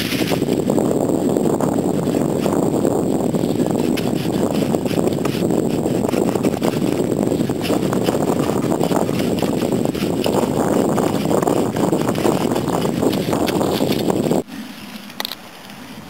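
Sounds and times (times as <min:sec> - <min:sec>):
low rumble: 0:00.0 - 0:14.5.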